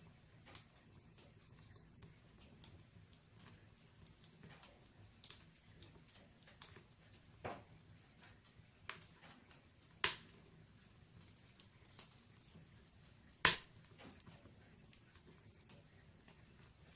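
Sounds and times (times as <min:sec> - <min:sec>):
firewood crackling in a fireplace: 0:00.0 - 0:16.9.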